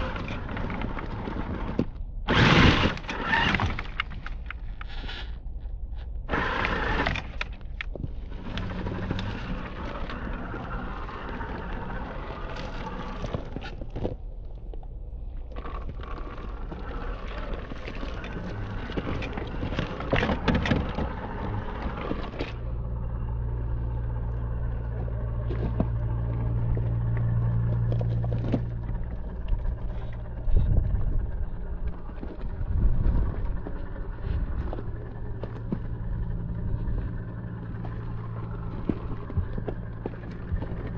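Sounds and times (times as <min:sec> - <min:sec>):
low motor hum: 0:00.0 - 0:40.9
tyres crackling on dirt and stones: 0:00.0 - 0:40.9.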